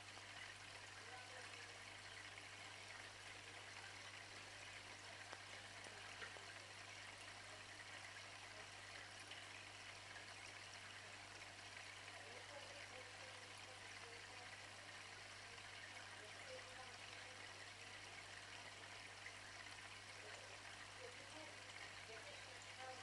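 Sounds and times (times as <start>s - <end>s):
aquarium water trickling: 0.0s - 23.0s
low steady hum: 0.0s - 23.0s.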